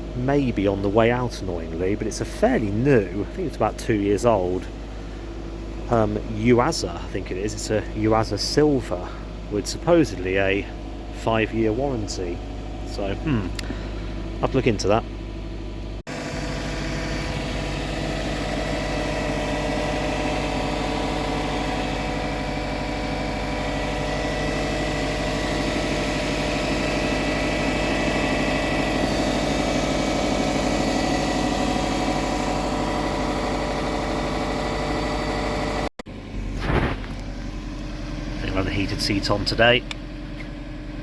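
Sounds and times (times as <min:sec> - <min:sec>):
car engine idling: 0:00.0 - 0:41.0
faint engine whine: 0:00.0 - 0:41.0.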